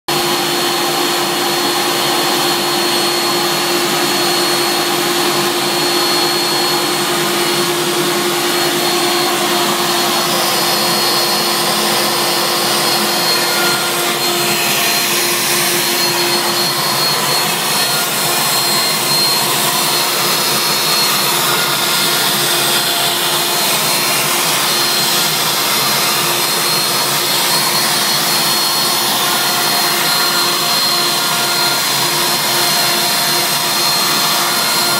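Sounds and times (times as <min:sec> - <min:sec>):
router spindle high whine: 0:00.1 - 0:34.9.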